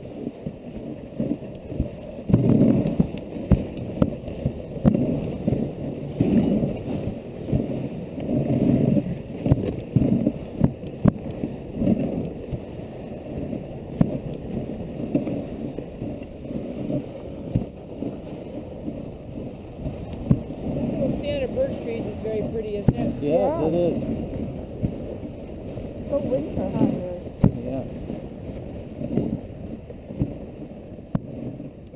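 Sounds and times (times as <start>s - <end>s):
sled runners scraping on snow: 0.0s - 27.2s.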